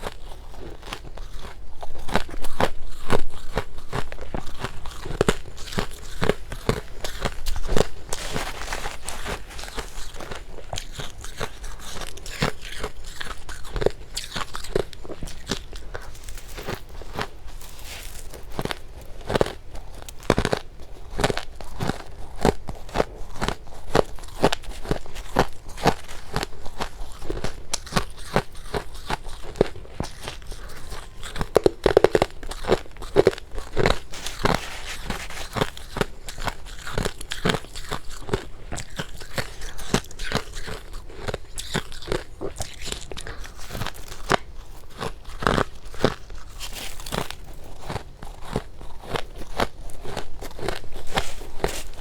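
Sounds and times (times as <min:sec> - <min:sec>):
biting and chewing frost crunches: 0:00.0 - 0:52.0.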